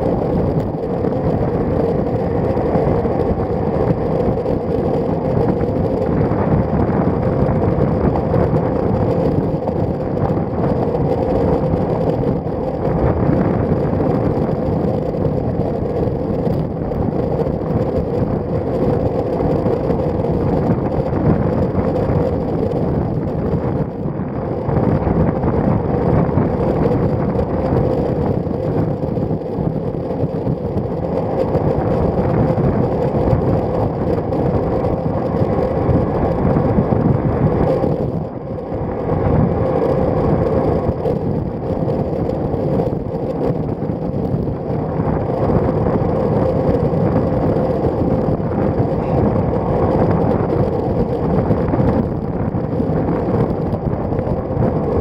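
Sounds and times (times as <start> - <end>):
bicycle road noise: 0.0 - 55.0
wind rush on microphone: 0.0 - 55.0.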